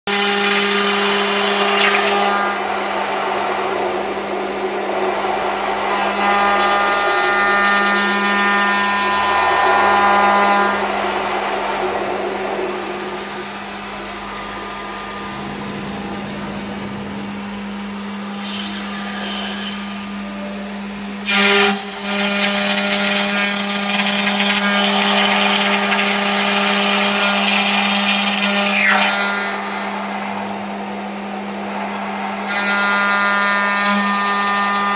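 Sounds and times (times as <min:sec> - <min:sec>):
spindle high whine: 0:00.1 - 0:34.9
steady machine hum: 0:00.1 - 0:34.9.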